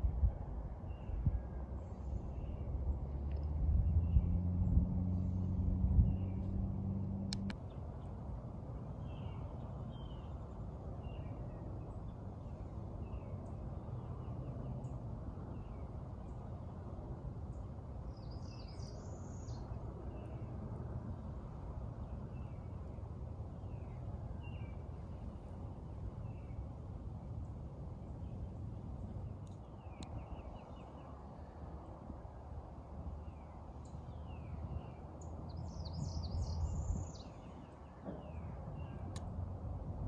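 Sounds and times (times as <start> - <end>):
low background rumble: 0.0 - 40.0
songbirds chirping: 0.4 - 39.8.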